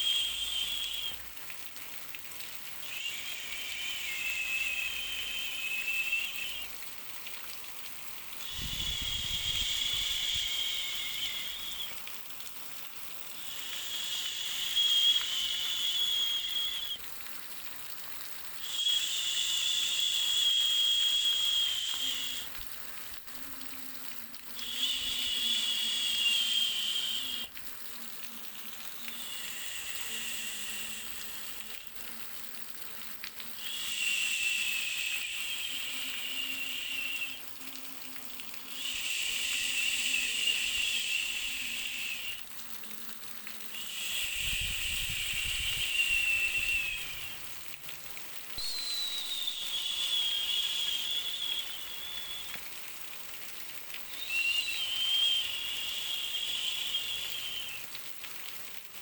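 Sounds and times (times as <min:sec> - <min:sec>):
white noise hiss with whistle tone: 0:00.0 - 0:59.0.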